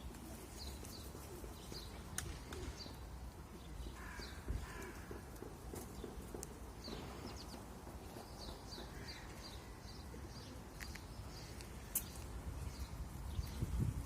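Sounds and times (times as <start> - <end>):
songbird chirping: 0.4 - 14.0.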